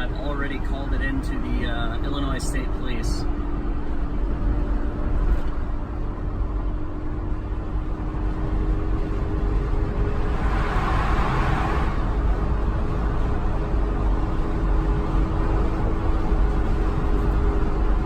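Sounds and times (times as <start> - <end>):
tyres and engine rumble: 0.0 - 18.0.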